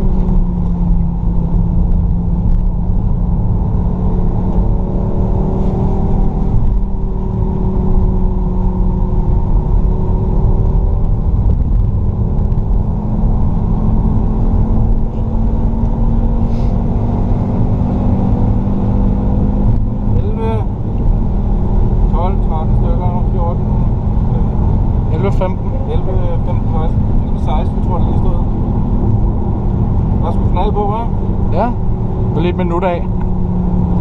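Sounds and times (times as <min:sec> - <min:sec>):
car engine running under load: 0:00.0 - 0:34.0.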